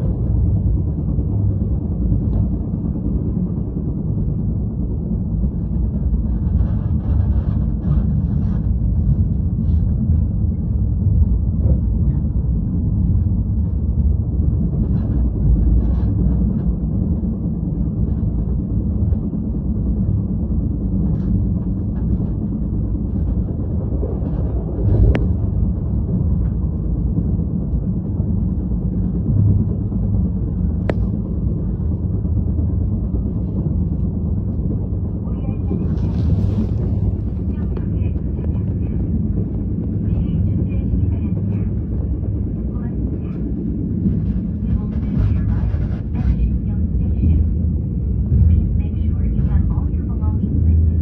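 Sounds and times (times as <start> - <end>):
steady low rumble: 0.0 - 51.0.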